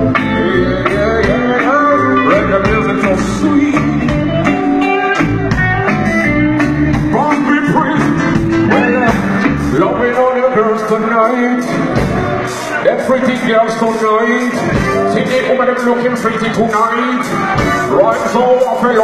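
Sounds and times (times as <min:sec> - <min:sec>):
person singing: 0:00.0 - 0:16.0
live band music: 0:00.0 - 0:19.0.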